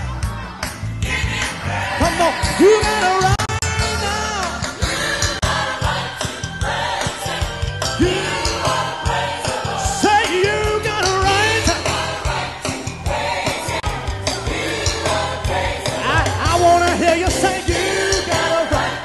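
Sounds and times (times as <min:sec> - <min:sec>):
instruments with steady beat: 0:00.1 - 0:19.0
group singing gospel song: 0:00.3 - 0:19.0.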